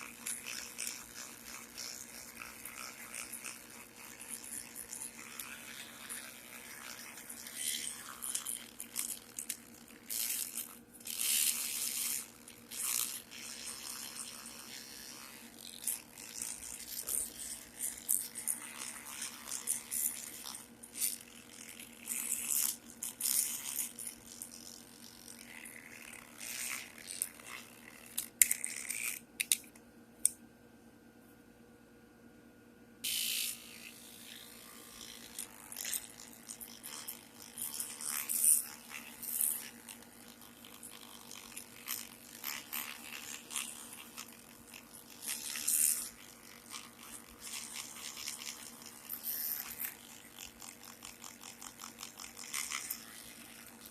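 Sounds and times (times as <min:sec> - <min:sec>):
toothbrush scrubbing metal: 0:00.0 - 0:29.6, 0:33.1 - 0:53.9.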